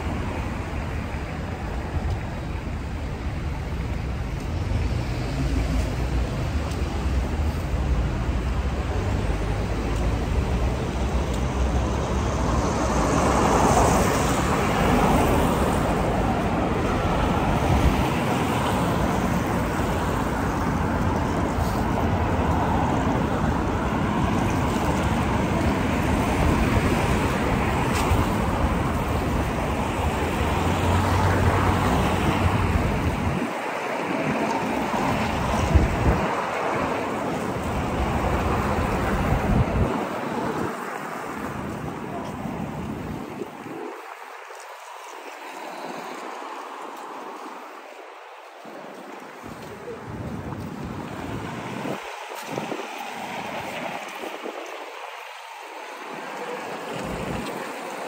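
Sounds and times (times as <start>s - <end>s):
cars driving past: 0.0s - 58.0s.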